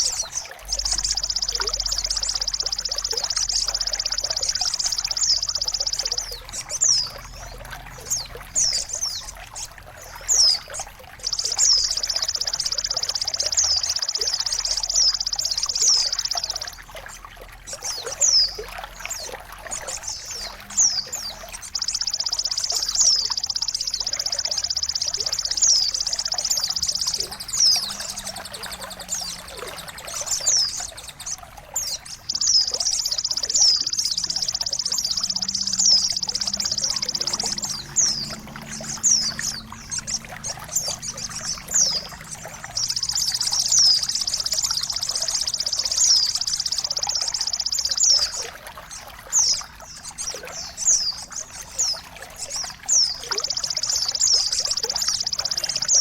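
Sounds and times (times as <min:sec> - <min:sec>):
high downward-sliding bird chirps: 0:00.0 - 0:16.9, 0:17.7 - 0:48.5, 0:49.4 - 0:56.0
trickling water: 0:00.0 - 0:56.0.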